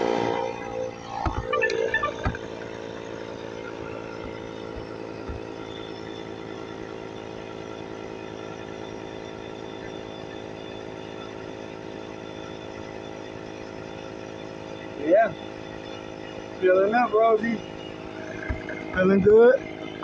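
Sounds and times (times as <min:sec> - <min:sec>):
tire inflator compressor buzzing: 0:00.0 - 0:20.0.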